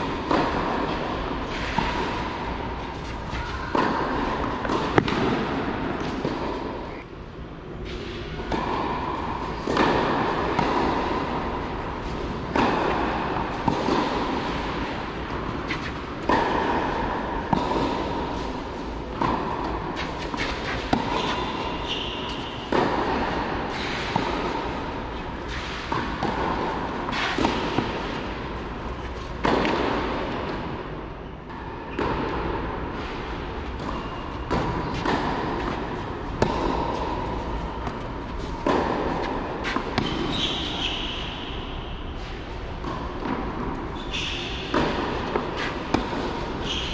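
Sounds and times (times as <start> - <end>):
tennis ball hit by racket: 0.0 - 7.1, 7.9 - 30.8, 31.5 - 41.6, 42.8 - 46.9.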